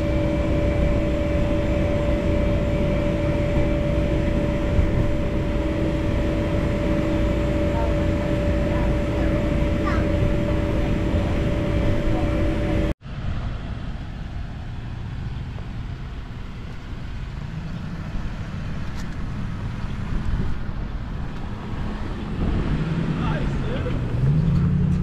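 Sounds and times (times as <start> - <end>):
steady hum: 0.0 - 25.0
truck engine at low revs: 0.0 - 25.0.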